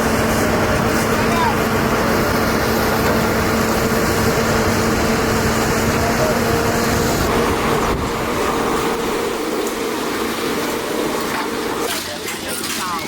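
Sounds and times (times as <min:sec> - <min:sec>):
rushing noise: 0:00.0 - 0:11.2
mechanical hum with tones: 0:00.0 - 0:13.0.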